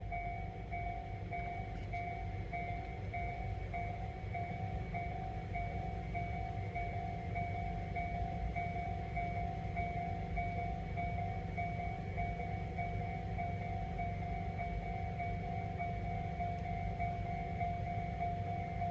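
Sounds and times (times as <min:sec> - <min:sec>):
level-crossing bell clanging: 0:00.0 - 0:18.9.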